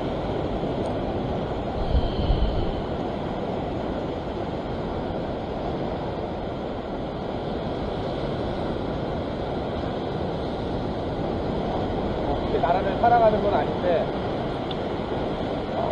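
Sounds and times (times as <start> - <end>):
sea waves surging over rocks: 0.0 - 15.9
wind on microphone: 0.0 - 15.9.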